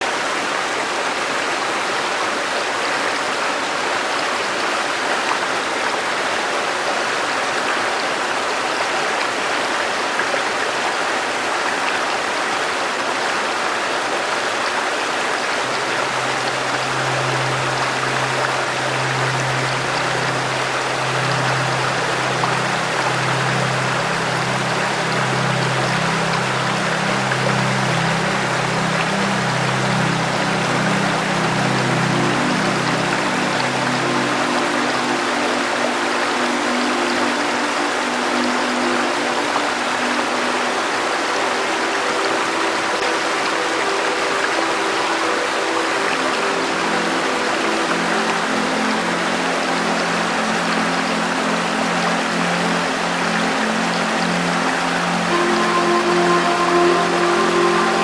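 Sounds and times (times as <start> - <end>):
river water flowing: 0.0 - 58.0
soft low background music: 0.1 - 58.0.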